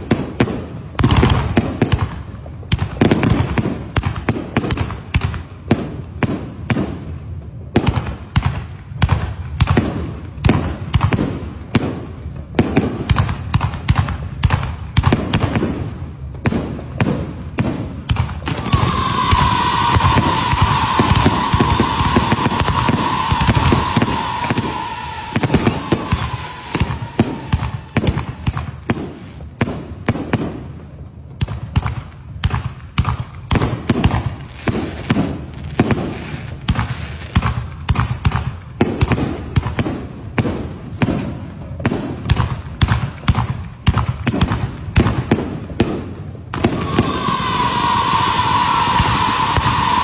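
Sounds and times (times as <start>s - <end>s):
firework fountain hissing and whistling: 0.0s - 31.0s, 31.6s - 45.8s, 46.5s - 50.0s.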